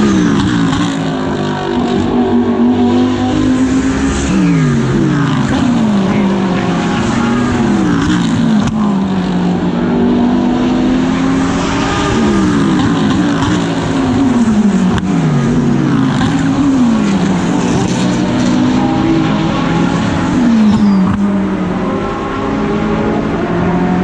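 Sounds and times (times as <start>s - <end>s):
race car engine revving: 0.0s - 24.0s.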